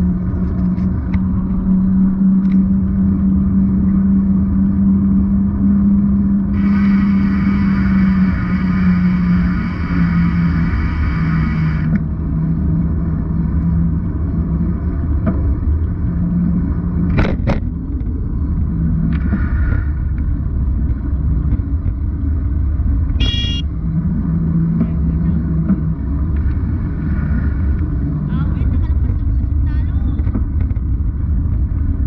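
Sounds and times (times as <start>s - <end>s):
motorcycle engine hum: 0.0s - 32.0s
muffled wind and road noise: 0.0s - 32.0s.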